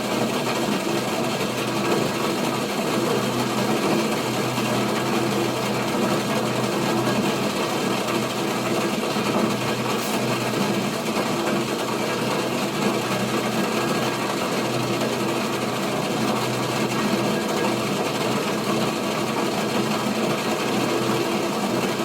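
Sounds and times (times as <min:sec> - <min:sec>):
water boiling: 0:00.0 - 0:22.0.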